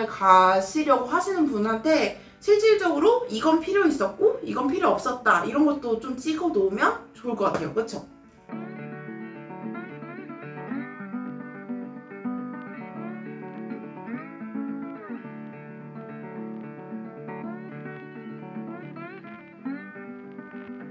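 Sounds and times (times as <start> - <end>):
acoustic guitar melody: 0.0 - 20.9.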